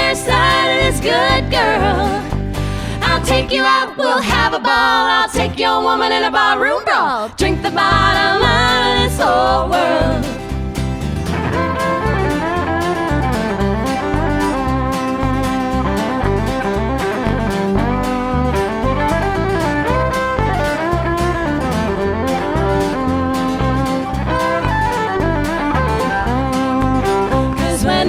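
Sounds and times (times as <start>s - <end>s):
country band playing: 0.0s - 3.5s, 4.3s - 4.5s, 7.4s - 28.0s.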